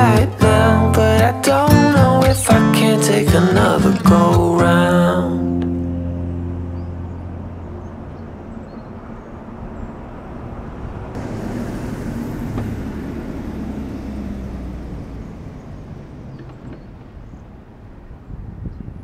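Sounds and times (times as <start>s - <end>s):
road vehicle passing: 3.0s - 19.0s.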